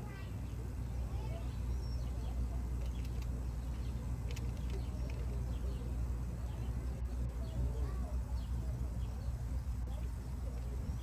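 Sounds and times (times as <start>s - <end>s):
faint bird chirps: 0.1s - 11.0s.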